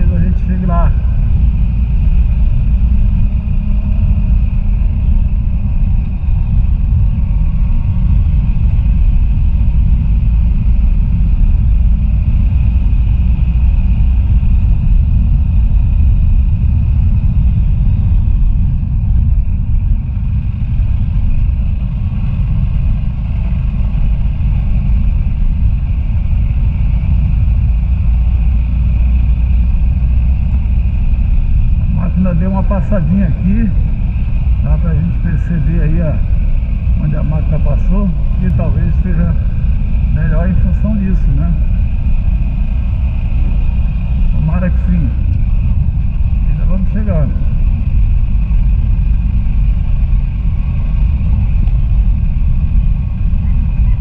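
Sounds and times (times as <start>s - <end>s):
vehicle driving on dirt road: 0.0s - 54.0s.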